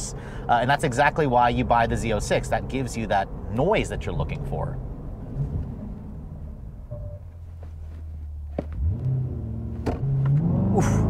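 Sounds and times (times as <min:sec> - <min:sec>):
car engine accelerating: 0:00.6 - 0:11.0.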